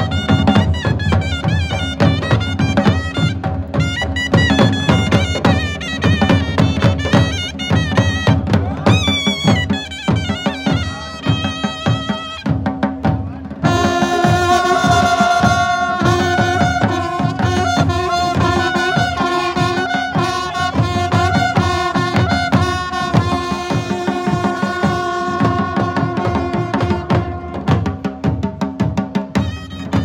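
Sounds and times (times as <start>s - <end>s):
reedy wind instrument melody: 0.0s - 28.4s, 29.3s - 30.0s
drums beating steadily: 0.0s - 30.0s.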